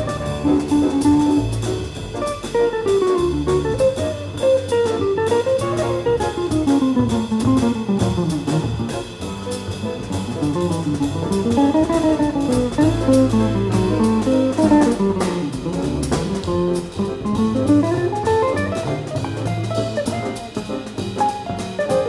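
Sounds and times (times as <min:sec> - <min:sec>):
drums with cymbals: 0:00.0 - 0:22.0
walking upright bass: 0:00.0 - 0:22.0.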